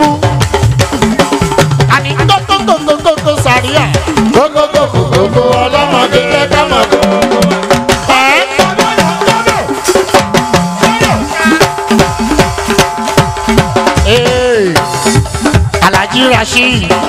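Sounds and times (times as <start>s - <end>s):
fast drum and percussion rhythm: 0.0s - 17.0s
live band dance music: 0.0s - 17.0s.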